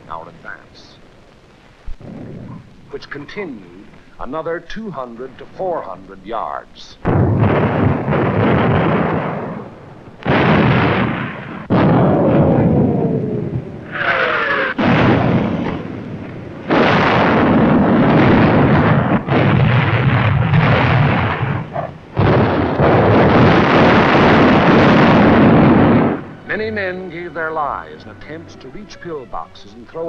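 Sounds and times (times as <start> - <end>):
artillery shells exploding: 1.9 - 30.0.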